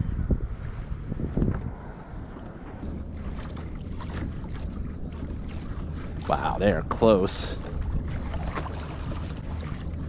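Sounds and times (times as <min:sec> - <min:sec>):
wind buffeting microphone: 0:00.0 - 0:10.0
small waves lapping against hull: 0:01.3 - 0:10.0.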